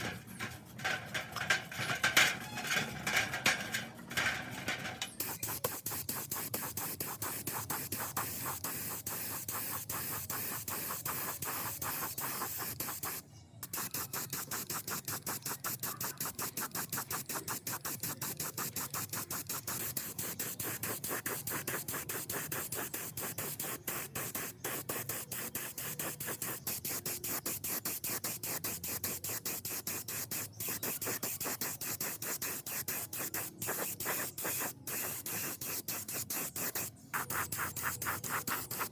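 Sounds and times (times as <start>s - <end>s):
sanding on metal: 0.0s - 38.9s.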